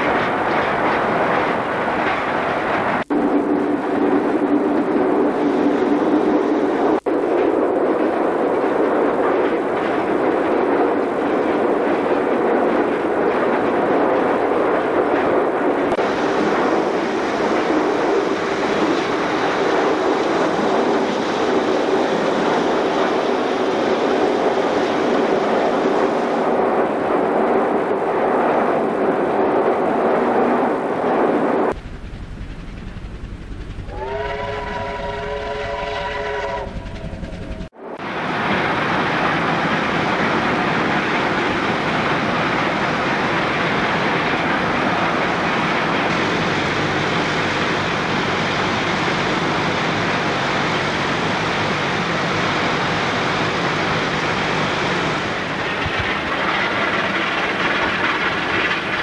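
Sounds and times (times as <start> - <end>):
steam locomotive roar: 0.0 - 27.3, 31.7 - 59.0.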